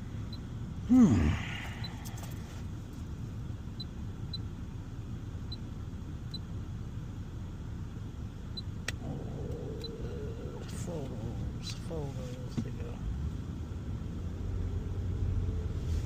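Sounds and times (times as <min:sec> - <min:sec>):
car engine rumbling inside cabin: 0:00.0 - 0:16.0.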